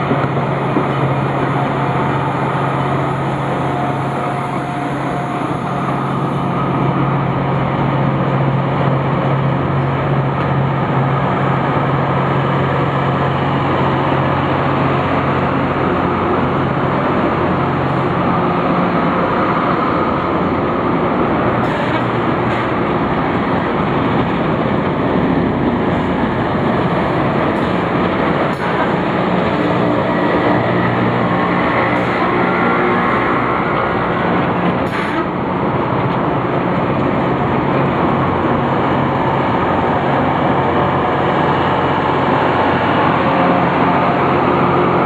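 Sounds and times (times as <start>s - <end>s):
low engine hum: 0.0s - 45.0s
rail grinder train grinding: 0.0s - 45.0s.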